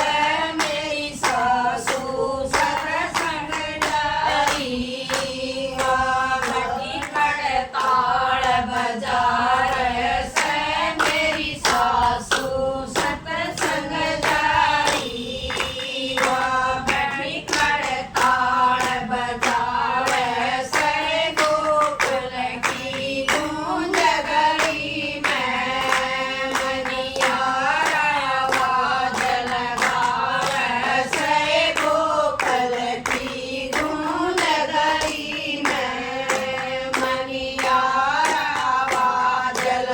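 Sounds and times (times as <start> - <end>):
hand clapping: 0.0 - 39.9
women singing in unison: 0.0 - 39.9.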